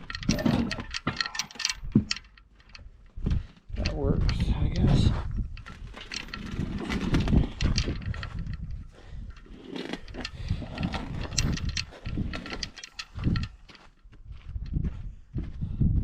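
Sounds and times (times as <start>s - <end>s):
knocks and clatter of engine work: 0.0s - 2.9s, 3.8s - 13.8s.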